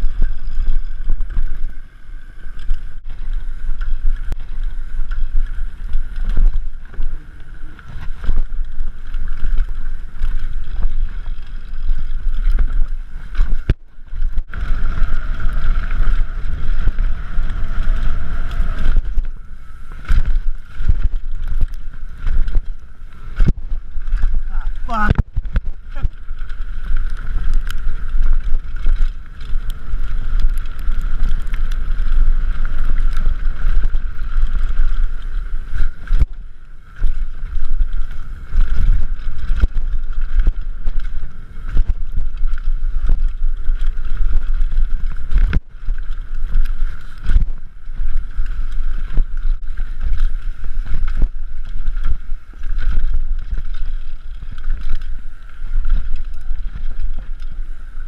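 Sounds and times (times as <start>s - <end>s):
knocks and rattles from trail: 0.0s - 58.0s
wind buffeting microphone: 0.0s - 58.0s.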